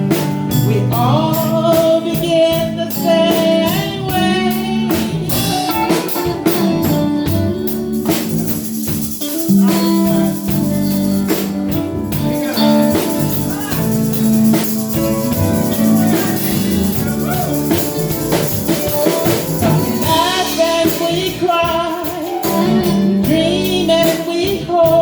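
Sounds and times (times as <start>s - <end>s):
drum kit beat: 0.0s - 25.0s
guitar: 0.0s - 25.0s
tambourine: 0.0s - 25.0s.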